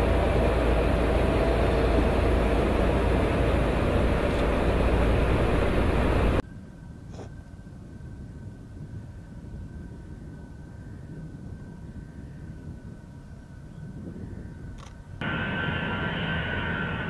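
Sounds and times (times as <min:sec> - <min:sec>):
distant jet hum with high whine: 0:00.0 - 0:17.0
jet engine and slipstream roar: 0:00.0 - 0:17.0.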